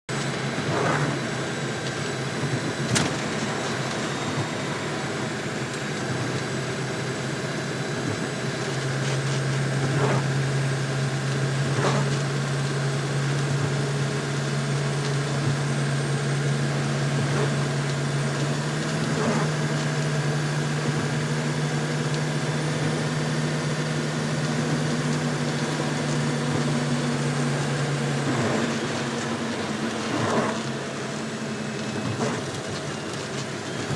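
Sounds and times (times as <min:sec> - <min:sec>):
vehicle engine drone: 0:00.0 - 0:33.9.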